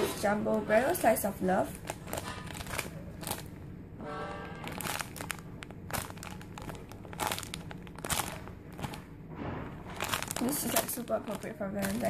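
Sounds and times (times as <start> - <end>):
low steady hum: 0.0 - 12.0
steady pitched whine: 0.0 - 12.0
plastic packaging crinkling: 0.1 - 3.7, 4.4 - 12.0.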